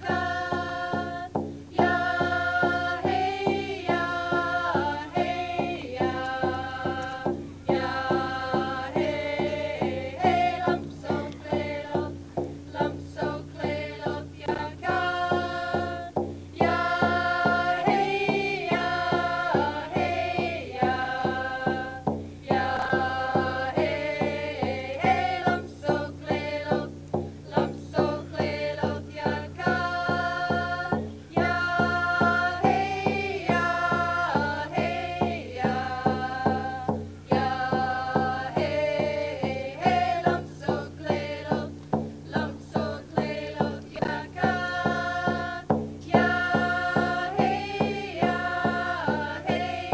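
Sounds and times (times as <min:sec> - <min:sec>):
hand drum beat: 0:00.0 - 0:49.9
voices chanting together: 0:00.0 - 0:49.9.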